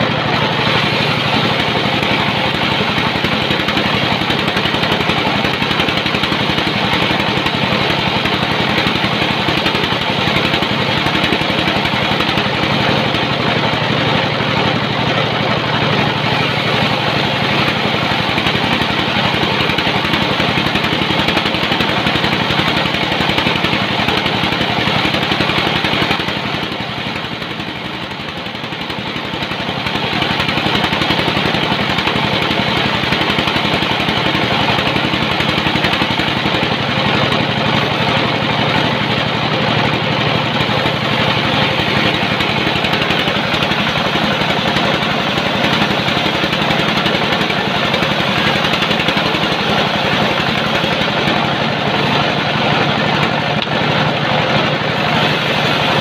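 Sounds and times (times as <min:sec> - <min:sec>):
sawmill sawing a log: 0:00.0 - 0:56.0.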